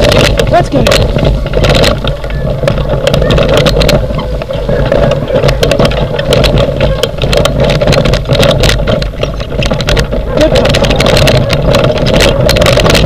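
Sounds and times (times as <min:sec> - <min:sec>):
sharp clicks and knocks: 0:00.0 - 0:13.0
wheels rumbling and rattling: 0:00.0 - 0:13.0.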